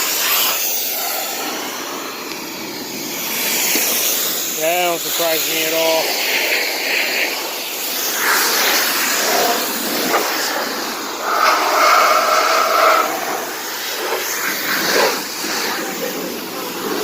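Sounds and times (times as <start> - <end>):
pressure washer spray hissing: 0.0 - 17.0.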